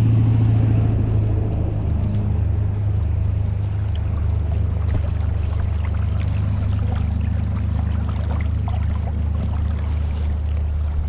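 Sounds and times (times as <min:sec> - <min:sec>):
stream rumbling: 0:00.0 - 0:11.0
water splashing and trickling: 0:00.0 - 0:11.0.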